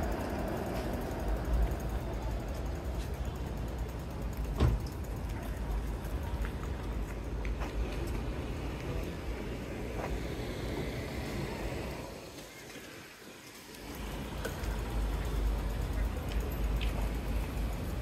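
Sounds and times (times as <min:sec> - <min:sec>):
low traffic rumble: 0:00.0 - 0:18.0
passing cars hum and hiss: 0:00.0 - 0:18.0.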